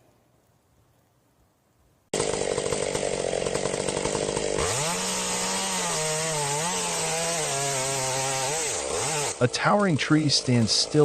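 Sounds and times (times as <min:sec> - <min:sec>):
chainsaw revving: 0:02.1 - 0:11.0.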